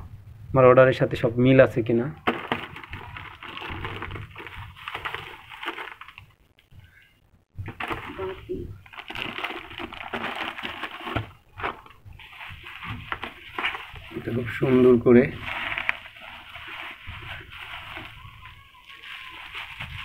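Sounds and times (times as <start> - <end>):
bubble wrap rustling: 2.2 - 6.4, 7.7 - 20.0
plastic mailer crinkling: 2.2 - 6.4, 7.7 - 20.0.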